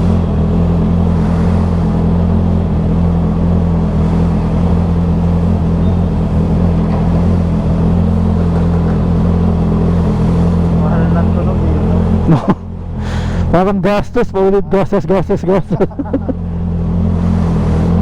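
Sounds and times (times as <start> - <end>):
vehicle engine running steadily: 0.0 - 18.0.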